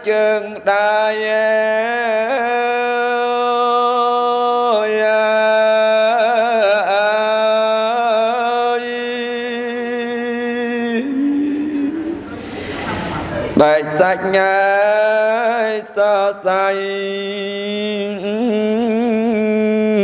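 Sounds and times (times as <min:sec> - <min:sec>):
monk chanting: 0:00.0 - 0:20.0.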